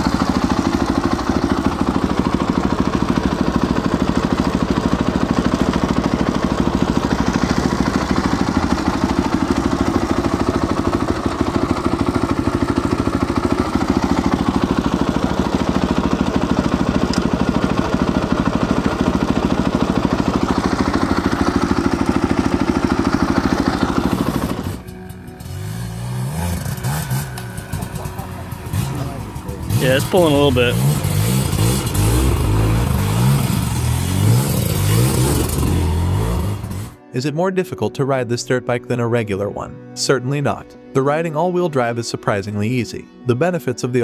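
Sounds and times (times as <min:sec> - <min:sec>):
dirt bike engine idling: 0:00.0 - 0:37.0.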